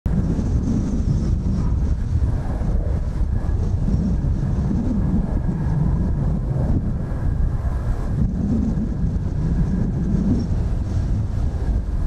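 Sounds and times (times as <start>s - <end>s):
wind buffeting microphone: 0.0s - 12.0s
distant jet whine: 0.1s - 12.0s.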